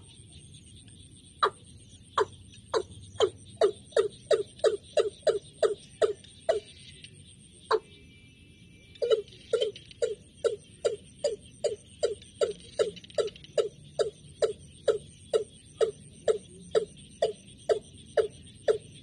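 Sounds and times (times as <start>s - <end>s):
repeated low bird call: 0.0s - 19.0s.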